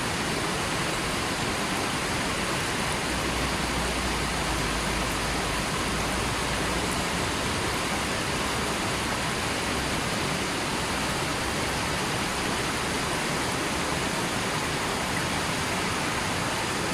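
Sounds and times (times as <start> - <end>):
stream water rushing: 0.0 - 16.9.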